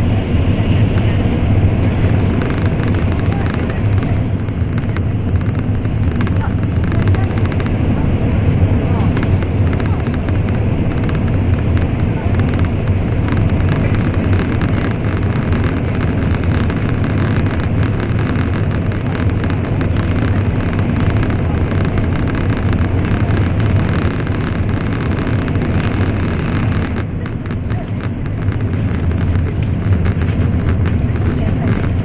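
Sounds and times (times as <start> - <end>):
train rumbling at speed: 0.0 - 32.0.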